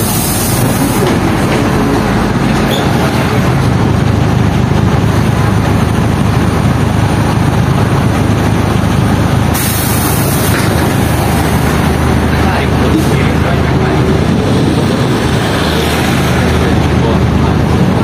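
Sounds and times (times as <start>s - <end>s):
diesel engine rumble: 0.0s - 18.0s
road noise: 0.0s - 18.0s.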